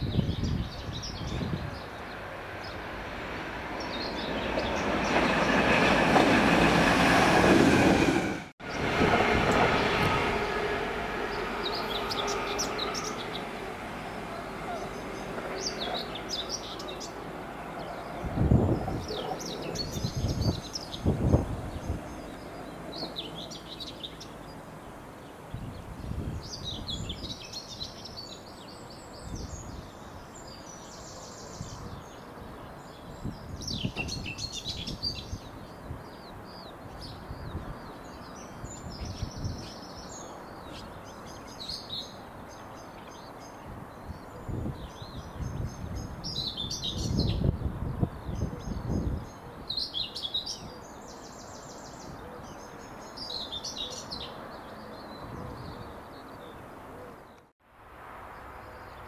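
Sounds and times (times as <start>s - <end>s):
songbirds singing: 0.0s - 7.6s, 11.2s - 57.5s.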